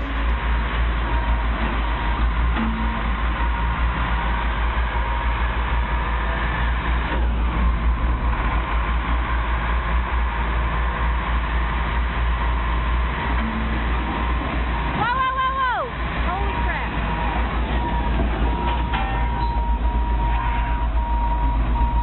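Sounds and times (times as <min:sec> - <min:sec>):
faint steady whine: 0:00.0 - 0:22.0
vehicle rumble: 0:00.0 - 0:22.0.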